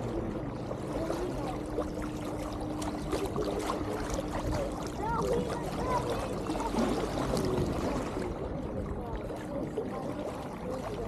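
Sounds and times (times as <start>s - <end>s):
steady hum: 0.0s - 11.0s
water splashing along boat hull: 0.0s - 11.0s.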